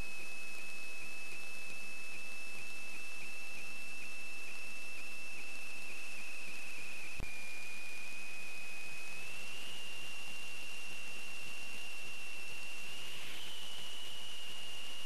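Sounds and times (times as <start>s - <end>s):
high-pitched electronic whine: 0.0s - 15.0s.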